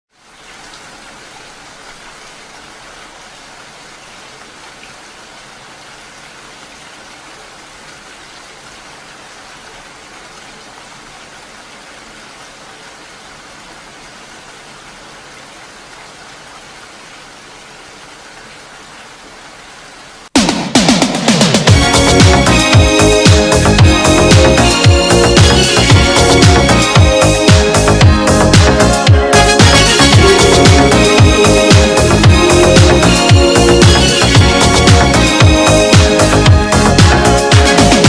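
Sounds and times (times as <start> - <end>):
steady rain: 0.1 - 38.0.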